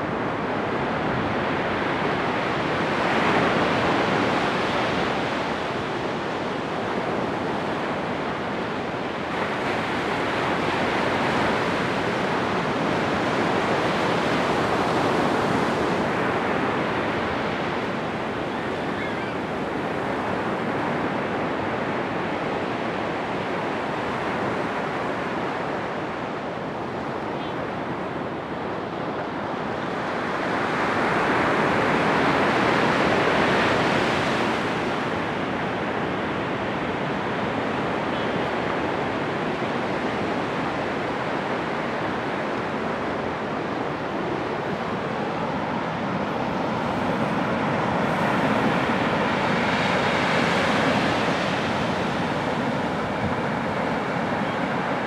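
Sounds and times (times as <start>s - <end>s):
surf breaking on a beach: 0.0s - 55.0s.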